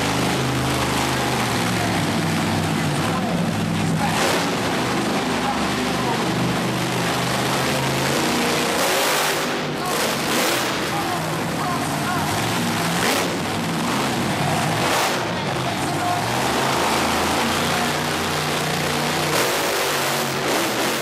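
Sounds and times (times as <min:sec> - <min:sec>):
arena crowd din: 0:00.0 - 0:21.0
monster truck engine running: 0:00.0 - 0:21.0.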